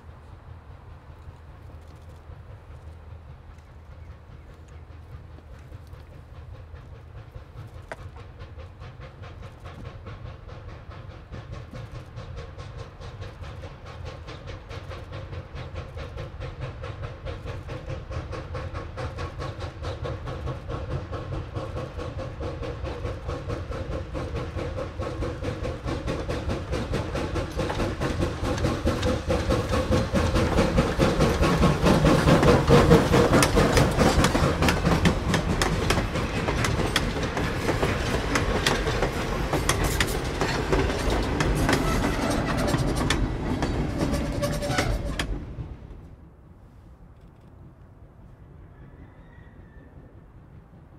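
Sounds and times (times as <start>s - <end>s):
steam locomotive exhaust beats: 0.0s - 50.9s
wheels clicking over rail joints: 0.1s - 46.2s.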